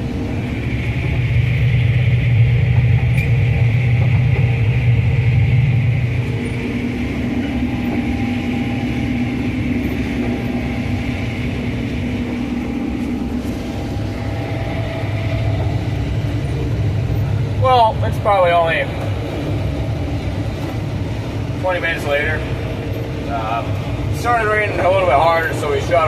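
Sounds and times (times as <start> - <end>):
diesel farm machinery running: 0.0 - 26.0.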